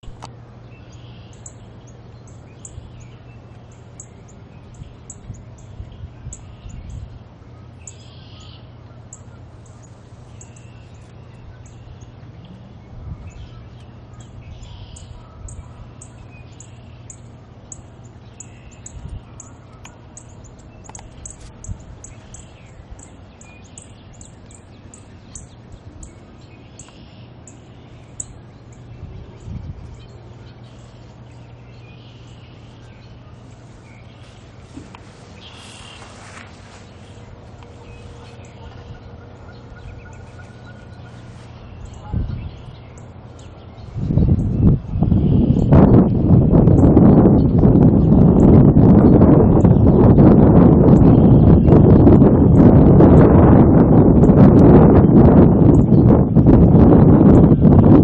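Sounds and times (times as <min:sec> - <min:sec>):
low hum: 0:00.0 - 0:58.0
small birds chirping: 0:00.0 - 0:58.0.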